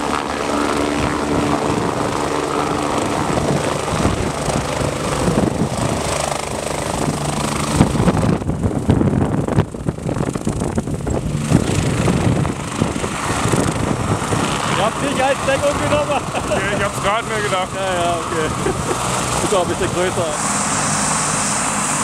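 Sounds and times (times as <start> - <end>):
helicopter turbines and rotor: 0.0 - 22.0
rough gusting low rumble: 0.0 - 22.0.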